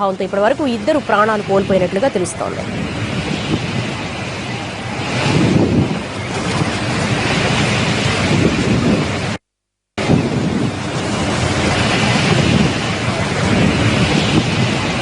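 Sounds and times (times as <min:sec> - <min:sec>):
strong wind gusting: 0:00.0 - 0:09.4, 0:10.0 - 0:15.0.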